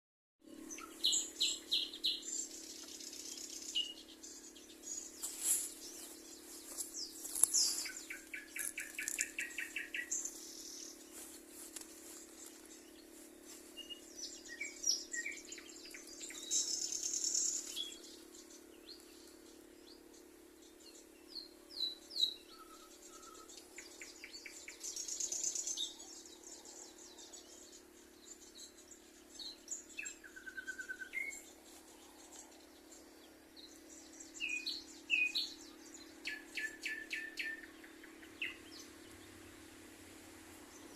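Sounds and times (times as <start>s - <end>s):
songbirds chirping: 0.4s - 40.9s
steady low hum: 0.4s - 40.9s
rapid bird trill: 0.5s - 40.9s.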